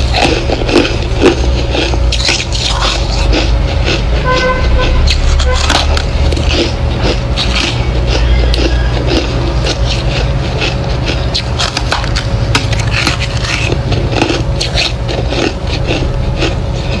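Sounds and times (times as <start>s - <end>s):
ice crunching being chewed: 0.0s - 17.0s
steady low hum: 0.0s - 17.0s.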